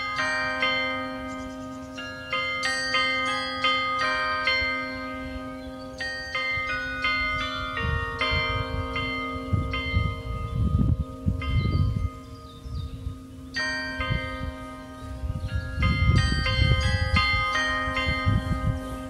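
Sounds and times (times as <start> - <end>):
carillon bells playing melody: 0.0 - 19.0
wind rumbling on microphone: 3.0 - 19.0.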